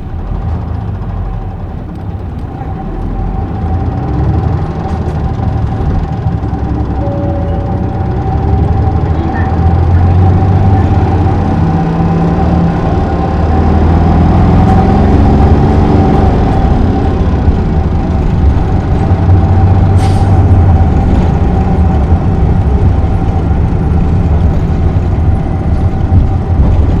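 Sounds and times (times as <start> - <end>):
bus engine whining: 0.0 - 27.0.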